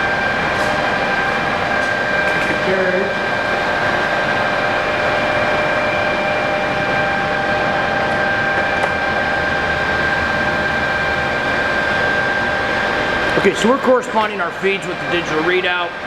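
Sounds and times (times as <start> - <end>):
high whine: 0.0 - 16.0
lathe mechanical hum: 0.0 - 16.0.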